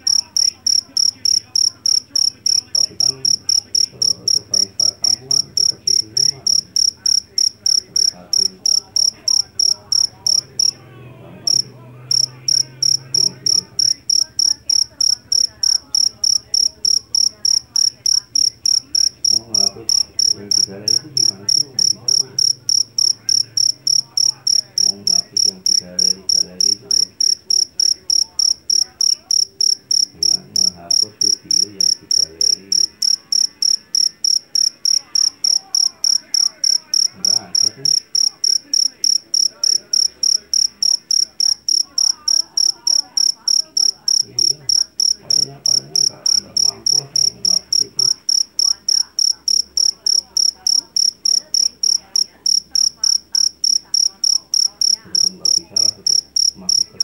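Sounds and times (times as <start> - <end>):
cricket chirping: 0.0 - 10.8, 11.4 - 57.0.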